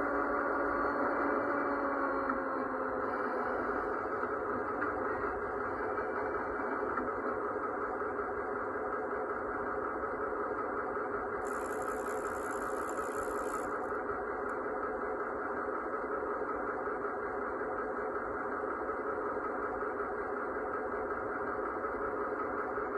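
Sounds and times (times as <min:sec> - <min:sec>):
diesel engine sound from speaker: 0:00.0 - 0:22.9.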